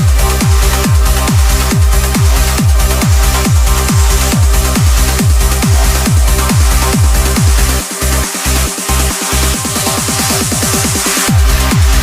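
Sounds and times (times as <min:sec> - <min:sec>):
heavy kick drum: 0:00.0 - 0:12.0
low bass line: 0:00.0 - 0:12.0.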